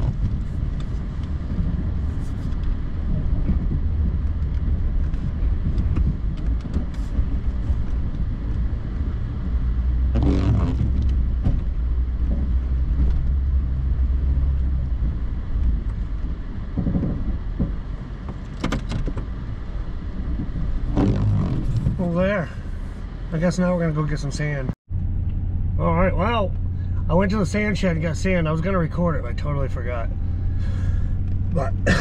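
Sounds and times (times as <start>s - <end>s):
vehicle engine droning: 0.0s - 32.0s.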